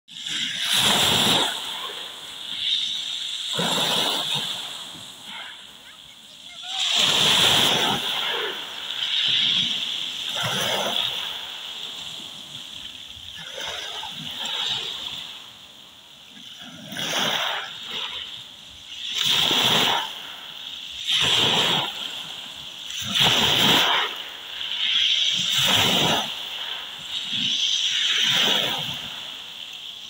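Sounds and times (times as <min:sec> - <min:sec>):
waves breaking on pebbles: 0:00.1 - 0:30.0.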